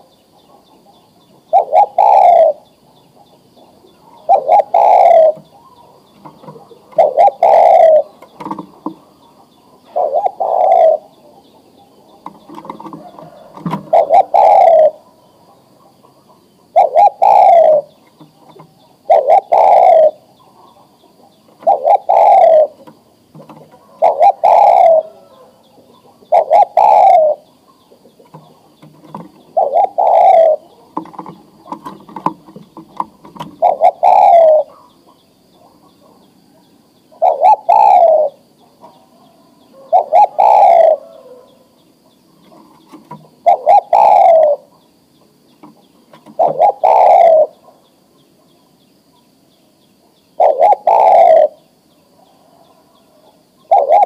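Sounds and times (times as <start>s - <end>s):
dove cooing: 0.0s - 44.9s, 45.6s - 48.6s, 50.0s - 54.0s.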